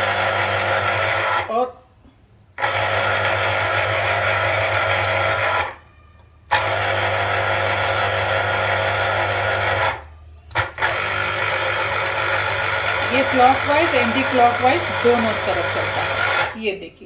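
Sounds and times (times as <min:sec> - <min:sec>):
citrus juicer motor humming: 0:00.0 - 0:01.7, 0:02.6 - 0:16.6.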